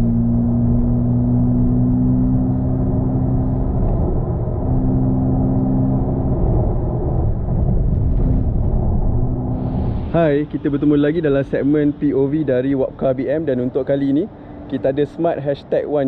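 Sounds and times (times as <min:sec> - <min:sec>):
tyre and road rumble in car cabin: 0:00.0 - 0:13.7
steady low hum: 0:00.8 - 0:16.0.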